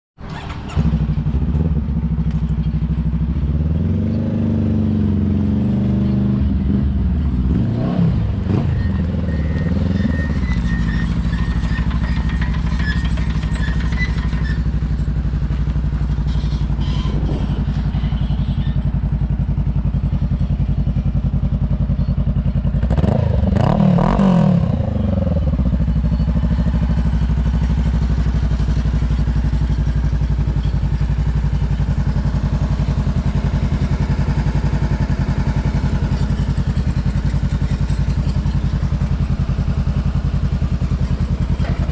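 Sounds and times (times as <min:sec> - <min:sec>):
motorcycle engine revving and idling: 0:00.2 - 0:41.9.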